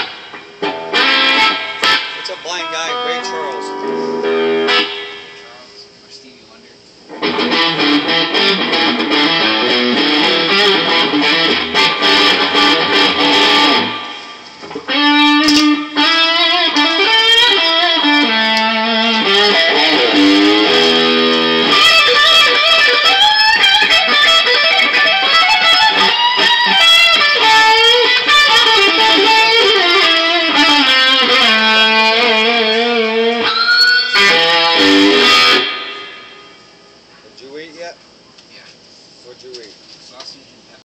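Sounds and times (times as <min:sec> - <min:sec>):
electric guitar lead lines: 0:00.0 - 0:06.4, 0:07.0 - 0:37.6.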